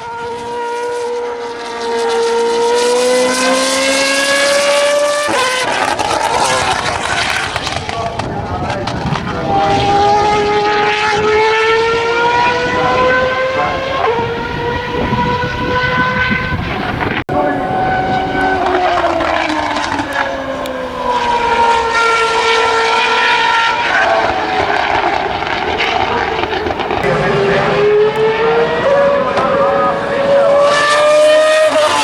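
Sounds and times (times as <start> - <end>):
racing car engine revving: 0.0 - 32.0.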